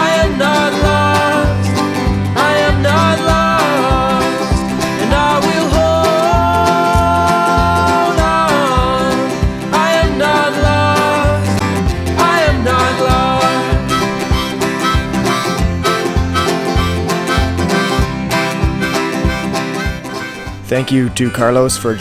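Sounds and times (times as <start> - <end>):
country-folk music with banjo: 0.0 - 22.0.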